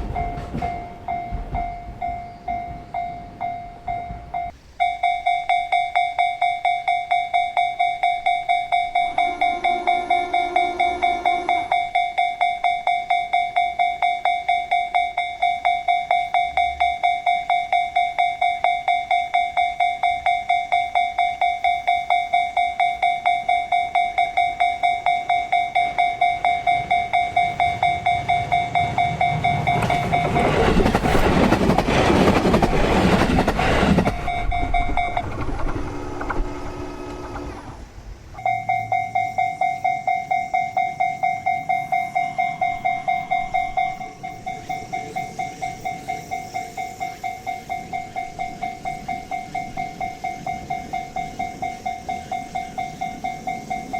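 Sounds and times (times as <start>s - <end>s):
train passing: 0.0s - 14.7s, 20.0s - 53.9s
level-crossing alarm bell: 0.0s - 37.4s, 38.4s - 53.9s.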